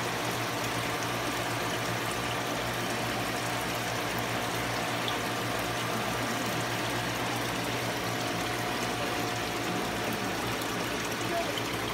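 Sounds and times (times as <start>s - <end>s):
aquarium pump running: 0.0s - 11.9s
water movement: 0.0s - 11.9s.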